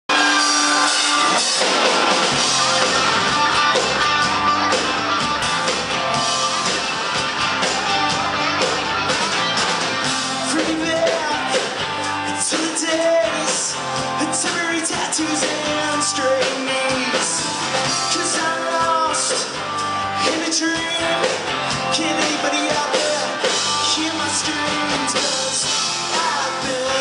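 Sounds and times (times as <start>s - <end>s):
live rock band playing: 0.1s - 27.0s.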